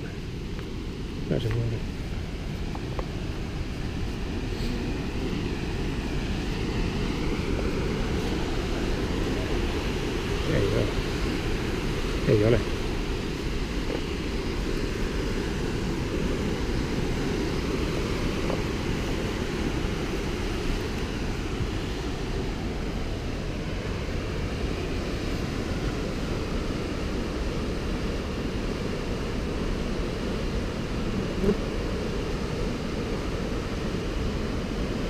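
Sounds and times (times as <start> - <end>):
low rushing noise: 0.0 - 35.0.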